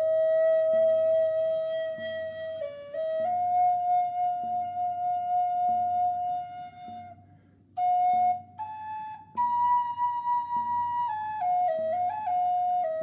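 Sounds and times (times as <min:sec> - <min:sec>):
flute playing slow melody: 0:00.0 - 0:13.0.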